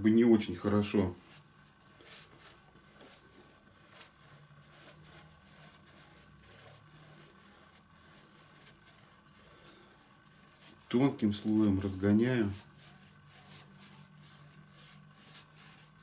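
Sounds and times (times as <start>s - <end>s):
brush swishing varnish: 0.2s - 16.0s.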